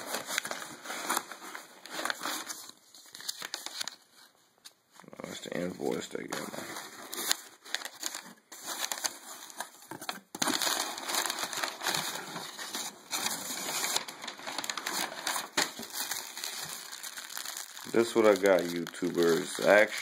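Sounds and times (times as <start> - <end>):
packing material crinkling: 0.0 - 4.3, 5.5 - 20.0.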